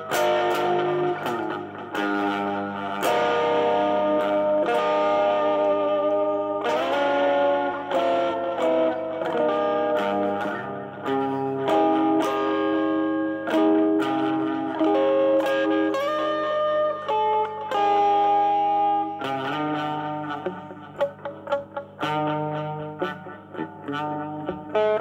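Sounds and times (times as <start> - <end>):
electric guitar notes and chords: 0.0 - 25.0.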